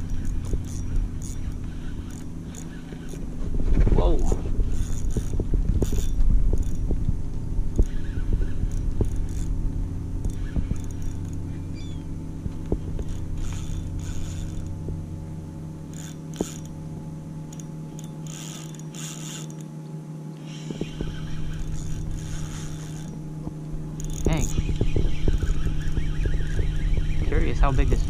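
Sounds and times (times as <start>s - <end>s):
reel ratcheting: 0.0s - 15.1s, 15.8s - 19.8s, 20.4s - 28.0s
fishing reel gear hum: 0.0s - 28.0s.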